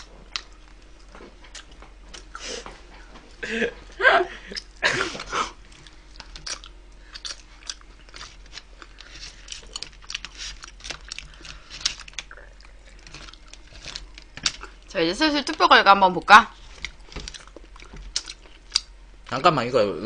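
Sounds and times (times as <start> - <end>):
person chewing and crunching food: 0.0 - 3.2, 4.4 - 15.6, 16.5 - 19.4.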